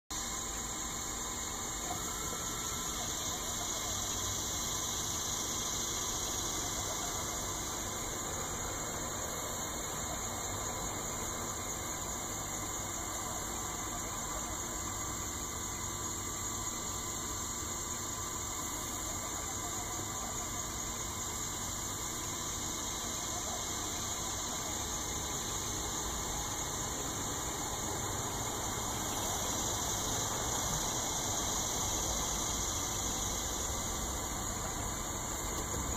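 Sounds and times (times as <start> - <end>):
laser engraver machine whir: 0.2 - 35.9.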